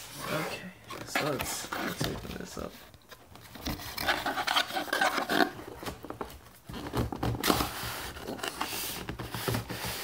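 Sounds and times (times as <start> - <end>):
cardboard packaging handled: 0.0 - 10.0.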